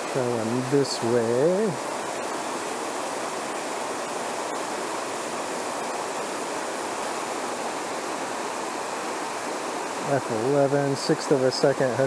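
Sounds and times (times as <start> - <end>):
small waterfall rushing over rocks: 0.0 - 12.0.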